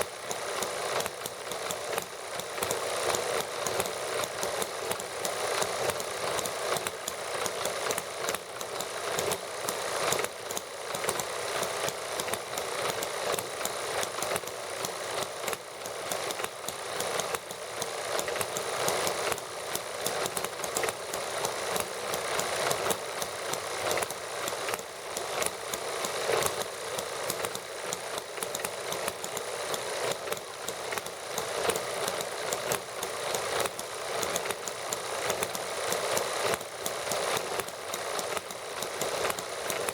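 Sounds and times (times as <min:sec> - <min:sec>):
small model engines running: 0:00.0 - 0:39.9.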